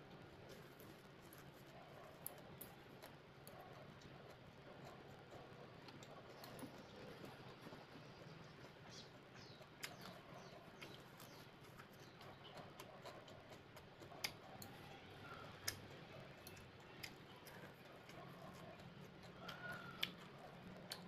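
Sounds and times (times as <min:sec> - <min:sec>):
faint chewing: 0:00.0 - 0:21.0.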